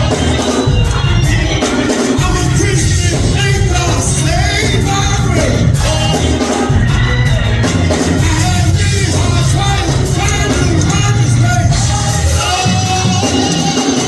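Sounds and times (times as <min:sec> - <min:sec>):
congregation shouting: 0:00.0 - 0:14.0
gospel singing with band: 0:00.0 - 0:14.0.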